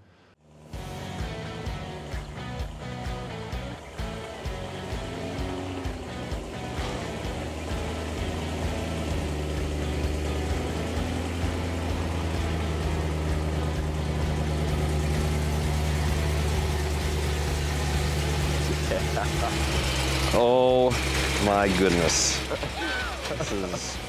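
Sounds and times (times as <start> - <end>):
car engine idling: 0.3 - 24.0.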